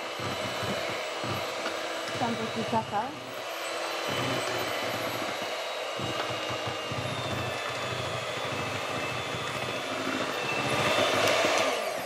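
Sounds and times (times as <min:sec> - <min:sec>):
electric hand mixer whisking batter: 0:00.0 - 0:12.0.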